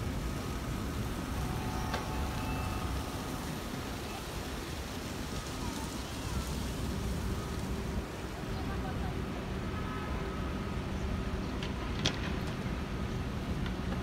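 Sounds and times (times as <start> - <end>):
steady hiss: 0.0 - 14.0
traffic rumble: 0.0 - 14.0.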